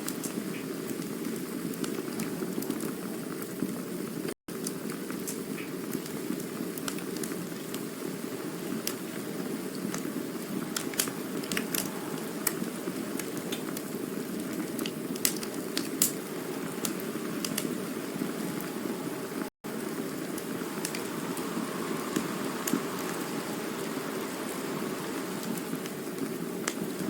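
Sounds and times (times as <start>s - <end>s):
burning wood crackling: 0.0s - 27.0s
campfire hissing: 0.0s - 27.0s.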